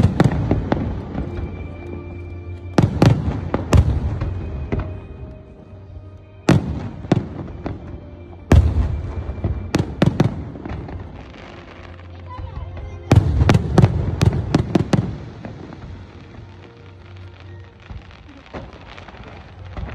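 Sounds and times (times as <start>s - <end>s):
fireworks bangs with echoes: 0.0s - 19.9s.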